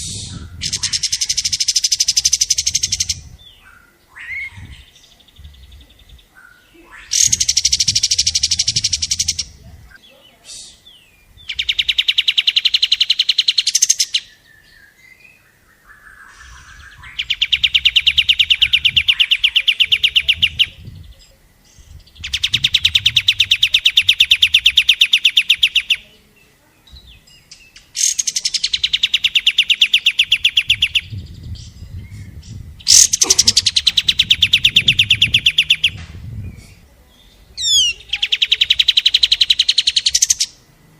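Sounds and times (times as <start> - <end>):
bird trilling song: 0.0 - 40.7.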